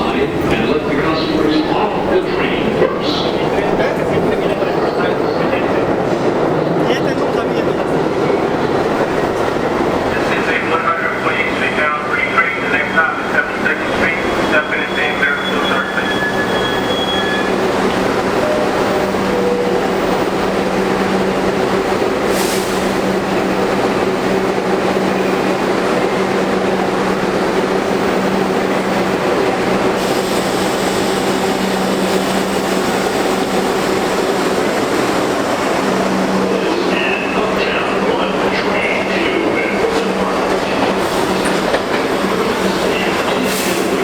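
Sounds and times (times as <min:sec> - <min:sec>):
steel wheels rumbling on rail: 0:00.0 - 0:44.0.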